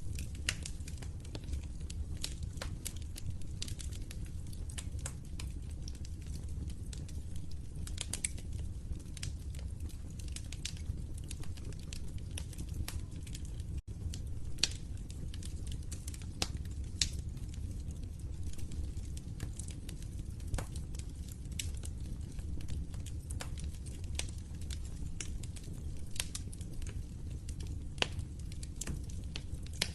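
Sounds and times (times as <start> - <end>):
fire pops: 0.0 - 29.9
wood fire crackling: 0.0 - 29.9.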